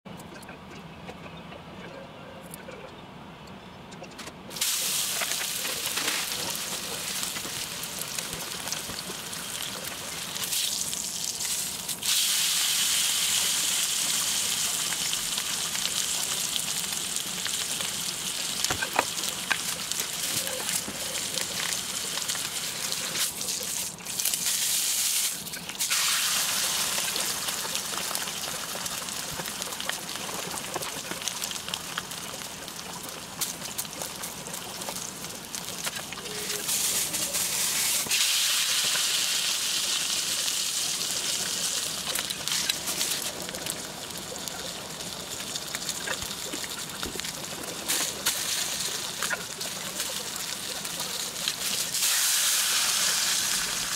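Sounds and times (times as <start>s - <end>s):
steak sizzling in frying pan: 4.6s - 53.9s.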